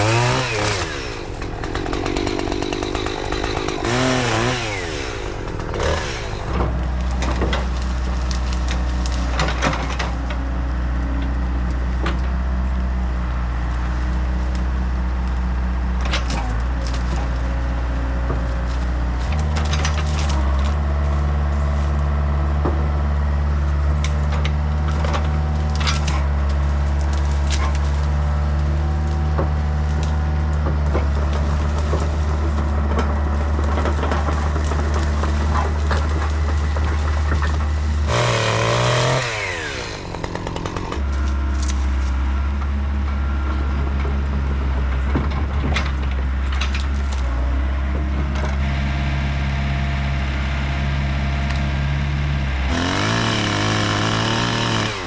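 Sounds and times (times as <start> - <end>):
wood cracking and snapping: 0.0 - 42.7, 43.8 - 47.7, 52.7 - 55.0
excavator diesel engine running: 0.0 - 55.0.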